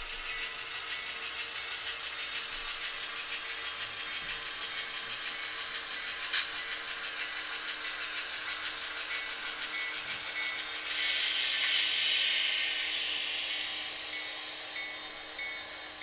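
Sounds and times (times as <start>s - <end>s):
model locomotive diesel engine hum: 0.0s - 16.0s.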